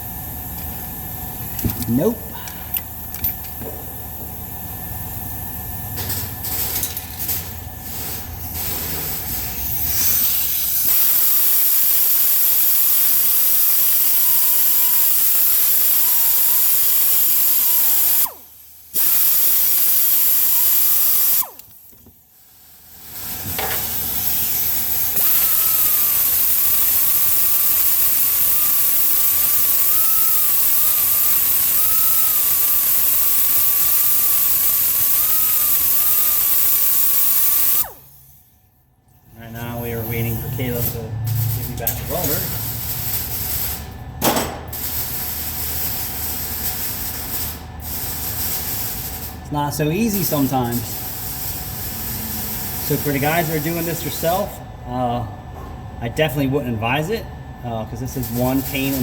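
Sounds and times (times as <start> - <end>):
gas torch hissing: 0.0 - 38.6, 39.4 - 54.7, 56.1 - 59.0.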